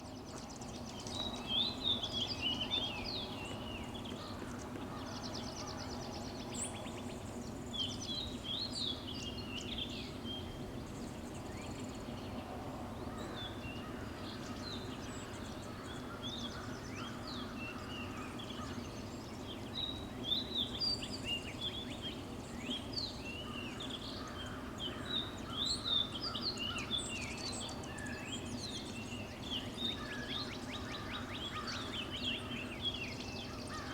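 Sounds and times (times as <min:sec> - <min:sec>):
birds chirping and trilling: 0:00.1 - 0:33.9.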